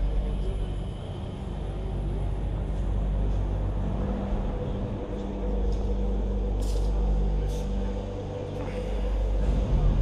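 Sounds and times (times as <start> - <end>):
busy hall low rumble and hum: 0.0 - 10.0.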